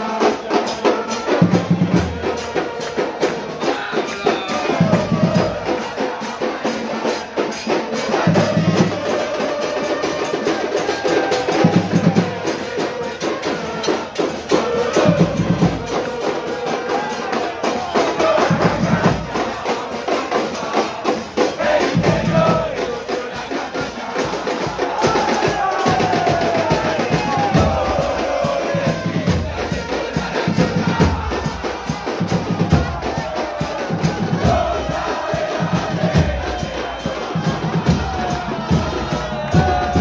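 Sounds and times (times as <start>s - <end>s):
bass and snare drums beating: 0.0s - 40.0s
crowd singing a chant: 0.0s - 40.0s.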